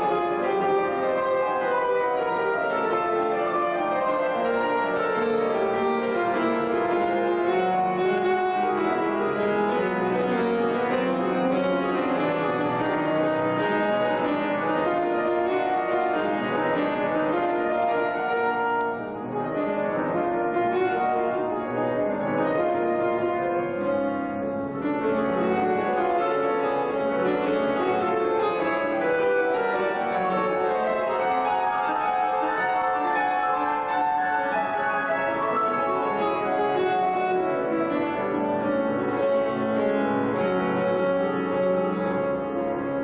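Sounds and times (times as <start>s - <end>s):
solo piano music: 0.0s - 43.0s.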